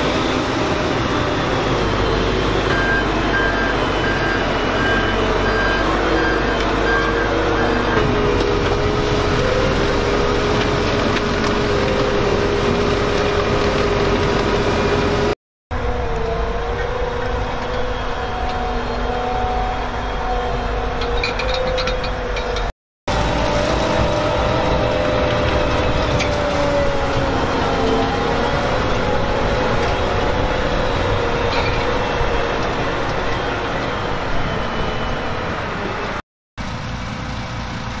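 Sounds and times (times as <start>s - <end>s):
harvester diesel engine droning: 0.0s - 38.0s.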